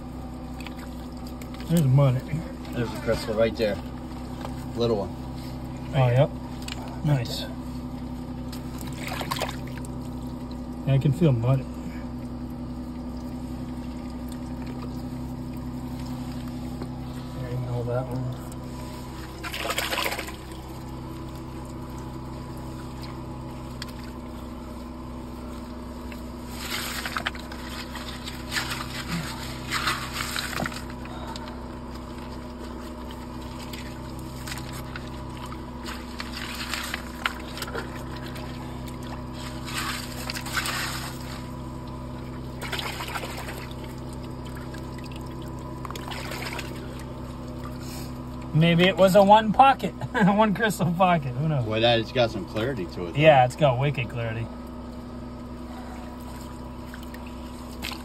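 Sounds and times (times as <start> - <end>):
hands sloshing through muddy water: 0.0 - 10.9, 11.6 - 48.6, 54.6 - 58.0
steady low hum: 0.0 - 58.0.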